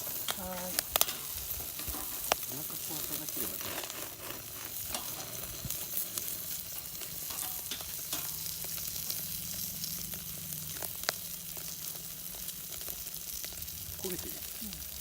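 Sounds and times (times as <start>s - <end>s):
meat sizzling over charcoal: 0.0s - 15.0s
small crackles and pops: 0.0s - 15.0s.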